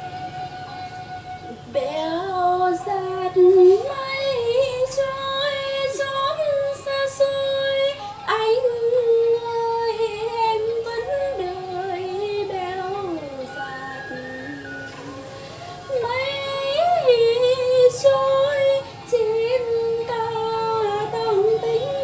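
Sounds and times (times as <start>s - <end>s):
woman singing slow melody: 0.0s - 22.0s.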